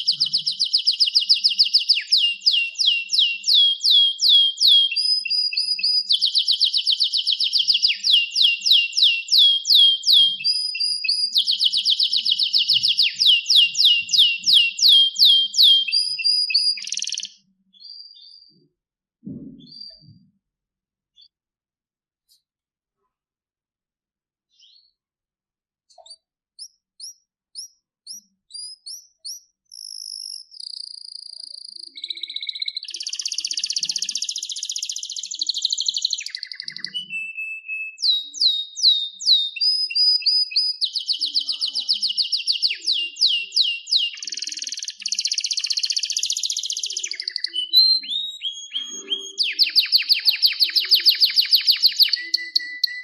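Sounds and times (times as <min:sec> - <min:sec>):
canary singing: 0:00.0 - 0:18.6, 0:25.9 - 0:53.0.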